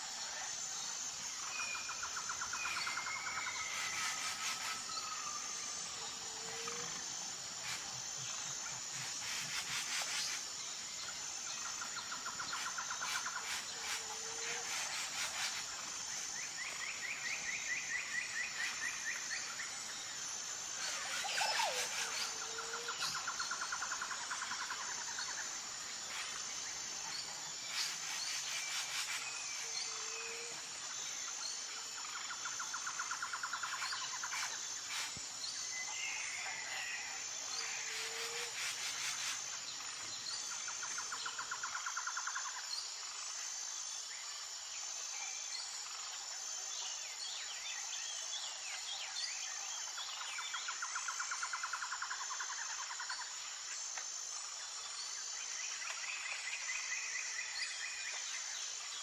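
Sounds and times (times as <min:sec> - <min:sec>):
insects pulsing drone: 0:00.0 - 0:59.0.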